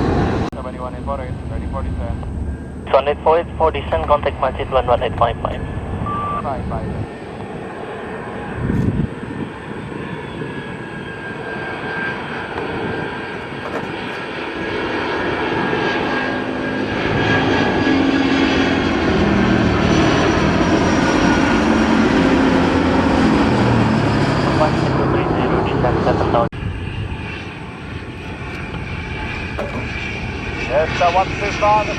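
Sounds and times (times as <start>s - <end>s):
jet engines running: 0.0s - 31.9s.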